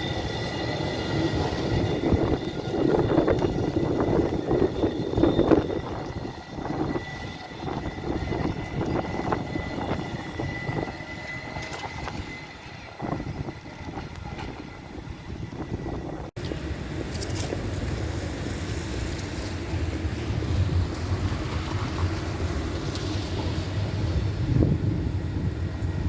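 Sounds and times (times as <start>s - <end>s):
high whine: 0.0s - 26.0s
tram rumbling on rails: 0.0s - 26.0s.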